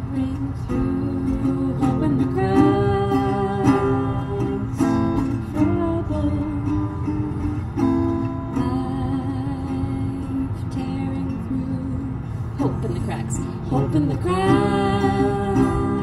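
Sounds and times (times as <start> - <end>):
acoustic guitar strumming: 0.0 - 16.0
person singing: 0.0 - 16.0.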